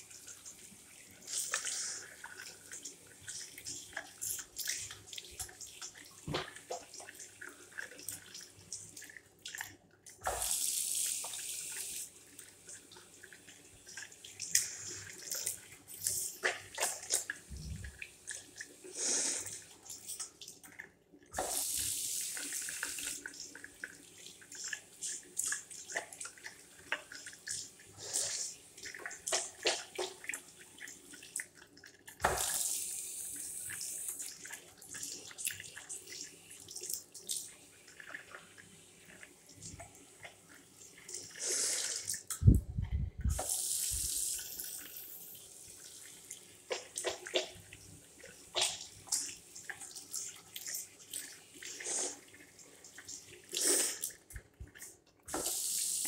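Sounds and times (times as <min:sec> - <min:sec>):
water splashes and drips: 0:00.0 - 0:56.0.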